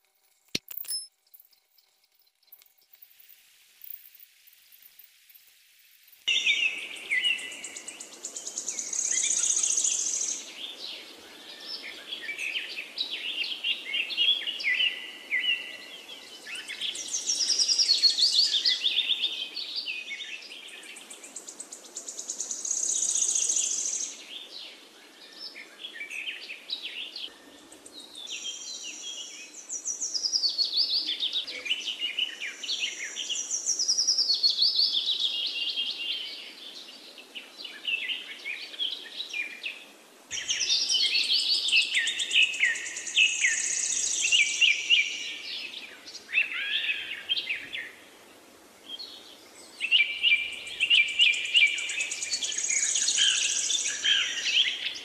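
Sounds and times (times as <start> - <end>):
birds chirping and trilling: 6.1 - 48.1, 48.9 - 55.0.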